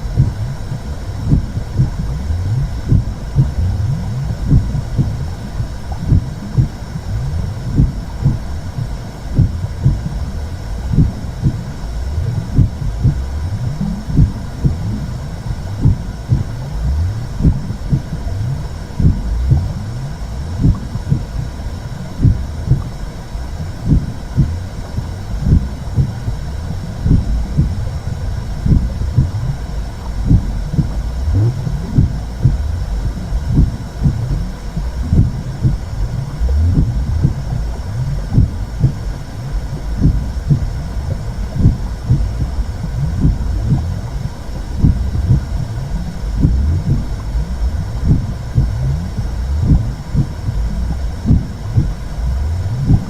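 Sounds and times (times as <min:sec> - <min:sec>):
low whooshing rumble: 0:00.0 - 0:53.0
muffled heartbeat: 0:00.0 - 0:53.0.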